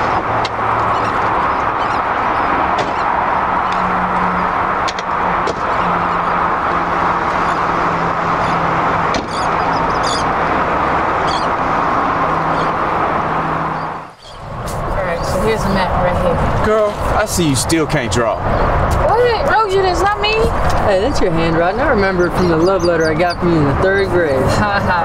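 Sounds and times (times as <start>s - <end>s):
car engine drone: 0.0s - 25.0s
road noise: 0.0s - 25.0s.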